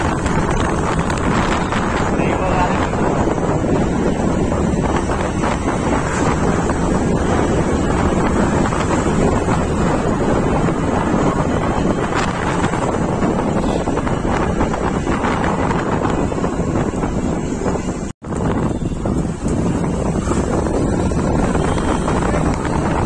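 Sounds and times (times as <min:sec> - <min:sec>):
wind buffeting microphone: 0:00.0 - 0:23.0
scooter engine humming: 0:02.8 - 0:23.0.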